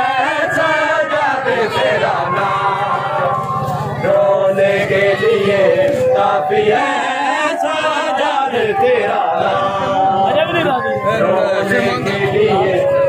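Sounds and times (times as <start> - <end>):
crowd of men chanting a lament: 0.0 - 13.0.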